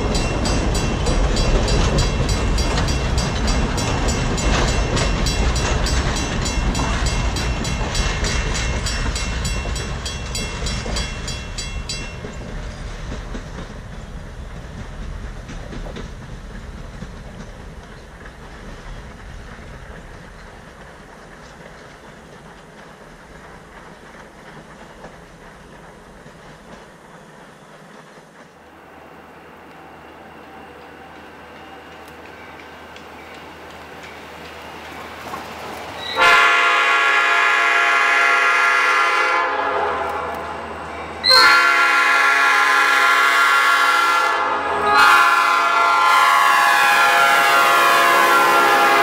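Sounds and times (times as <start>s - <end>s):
train rumble: 0.0s - 49.0s
train wheels clicking on rail joints: 0.0s - 49.0s.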